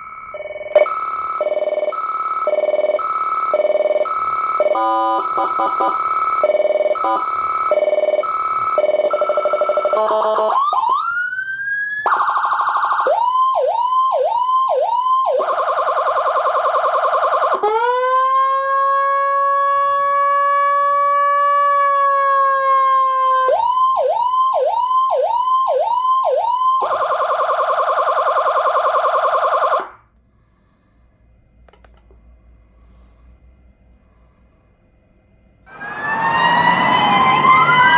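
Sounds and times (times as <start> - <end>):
electronic siren cycling tones: 0.0 - 30.0, 35.7 - 37.9.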